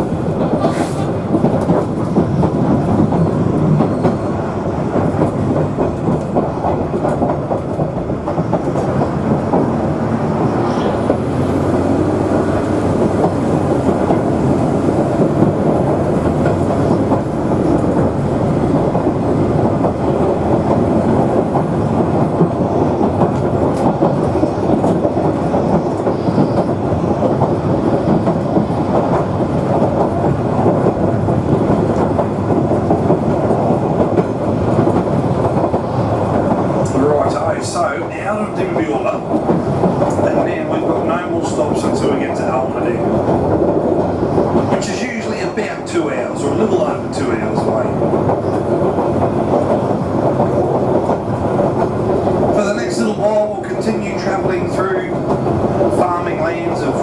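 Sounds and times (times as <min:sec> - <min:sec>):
diesel railmotor rumbling along track: 0:00.0 - 0:57.0.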